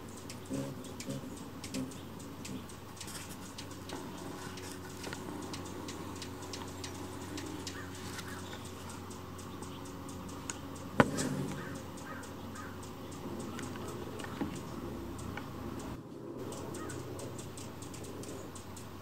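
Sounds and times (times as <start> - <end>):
hummingbird chip notes: 0.0 - 19.0
low steady hum: 0.0 - 19.0
raspy bird calls: 0.0 - 19.0.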